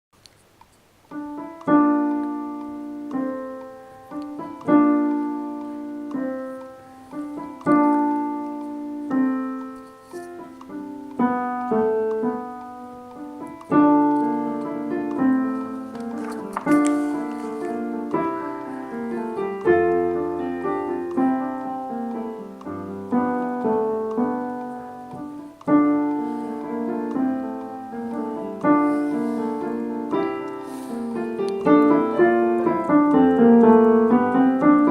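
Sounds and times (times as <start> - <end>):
piano chords: 0.9 - 34.9.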